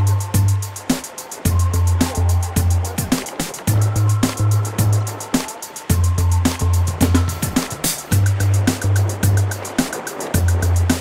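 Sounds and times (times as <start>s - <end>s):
ticking hi-hats: 0.0s - 11.0s.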